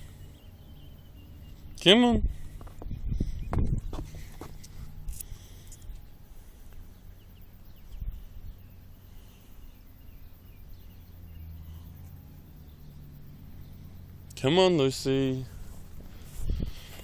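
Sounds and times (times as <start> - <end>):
faint bird chirps: 0.0 - 17.0
steady low rumble: 0.0 - 17.0.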